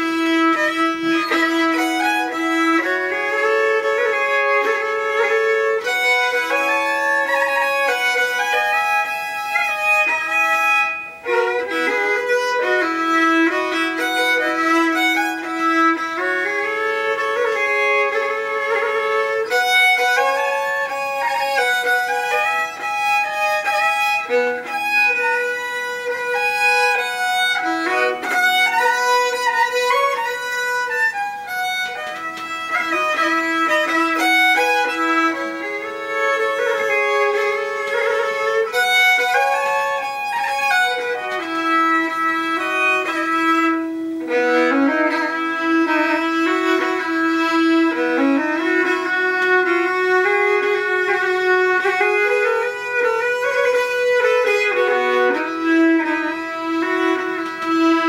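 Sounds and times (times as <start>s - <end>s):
bowed fiddle folk melody: 0.0s - 58.0s.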